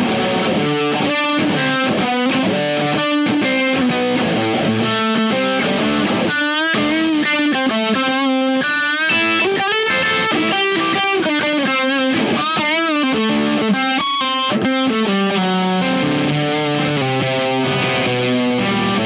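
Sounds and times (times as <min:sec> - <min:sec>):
fuzz electric guitar lead lines: 0:00.0 - 0:19.0.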